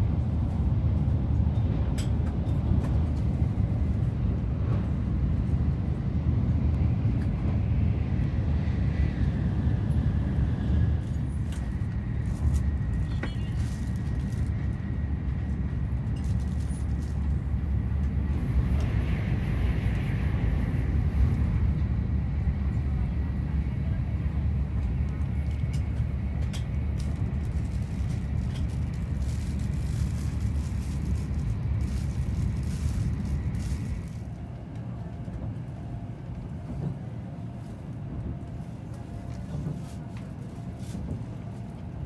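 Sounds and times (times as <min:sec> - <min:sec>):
train rumble inside cabin: 0:00.0 - 0:42.0.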